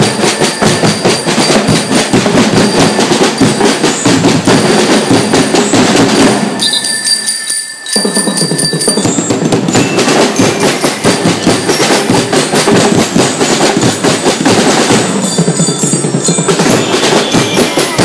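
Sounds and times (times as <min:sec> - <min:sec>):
bell lyres ringing: 0:00.0 - 0:18.0
drums beating quick rhythm: 0:00.0 - 0:18.0.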